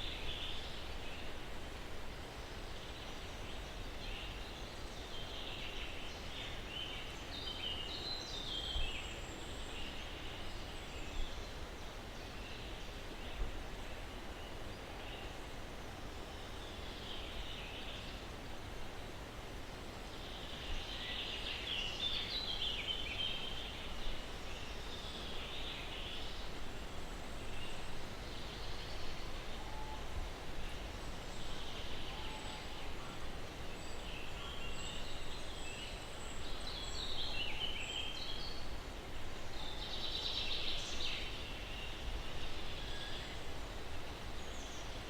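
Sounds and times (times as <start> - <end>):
breeze through pine trees: 0.0 - 45.0.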